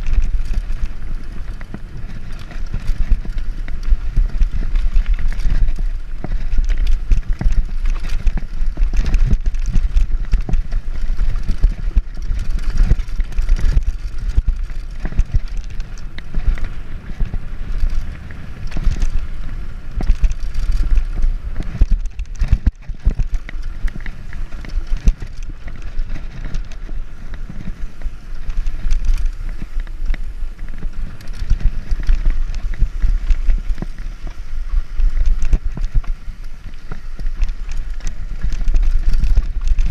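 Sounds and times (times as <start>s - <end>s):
bike rattling and knocking: 0.0s - 39.9s
bike tyres crunching on gravel: 0.0s - 39.9s
wind rumble on microphone: 0.0s - 39.9s.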